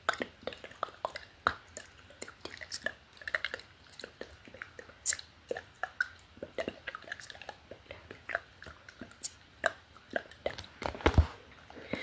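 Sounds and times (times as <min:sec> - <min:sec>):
lip smacks and tongue clicks: 0:00.0 - 0:10.8.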